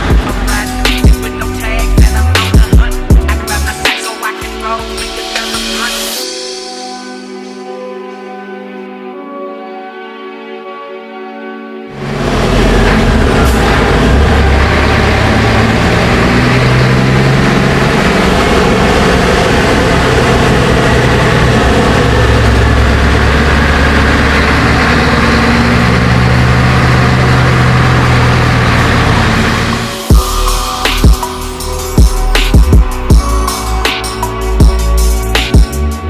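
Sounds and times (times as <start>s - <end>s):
diesel truck engine running: 0.0s - 5.7s, 11.9s - 36.0s.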